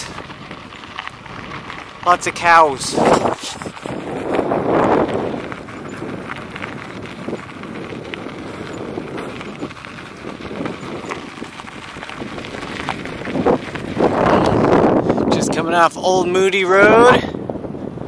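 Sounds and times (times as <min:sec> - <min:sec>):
bicycle tyres crunching on gravel: 0:00.0 - 0:18.0
wind on microphone: 0:00.0 - 0:18.0.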